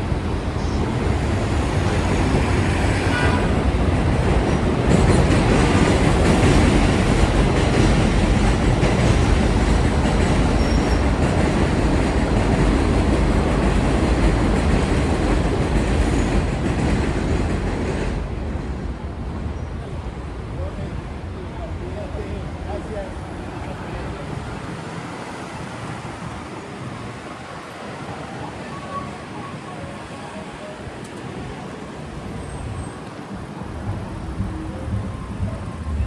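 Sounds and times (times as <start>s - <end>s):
elevated subway train passing: 0.0s - 36.0s.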